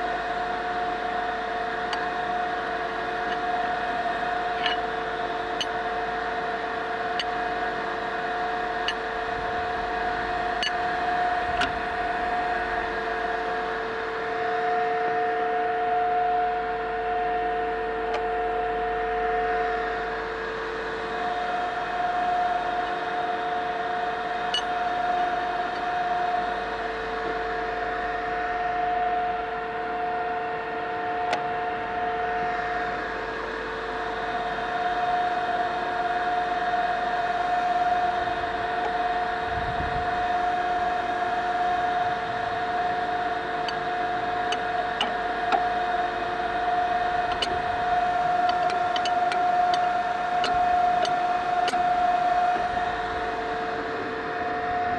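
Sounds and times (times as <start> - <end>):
machine tool humming: 0.0 - 15.4, 19.0 - 30.0, 31.1 - 54.9.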